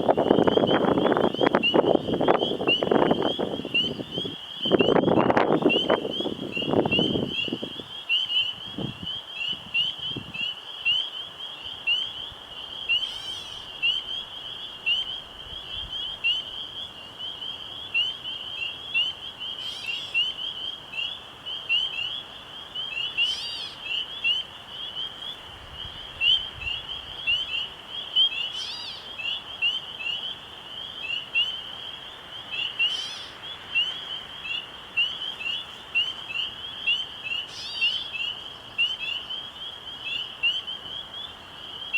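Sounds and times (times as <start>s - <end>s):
frogs chirping: 0.0s - 41.9s.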